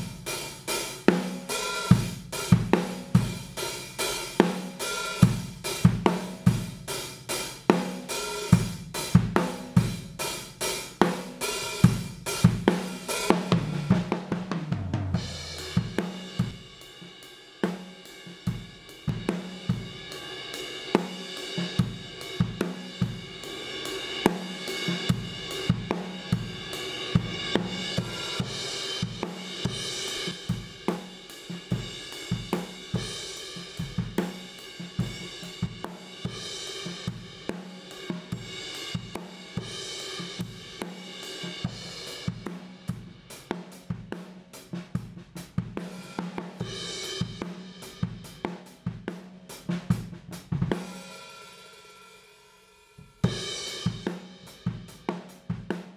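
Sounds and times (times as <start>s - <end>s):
drum kit playing a groove: 0.0s - 51.8s, 53.1s - 55.9s.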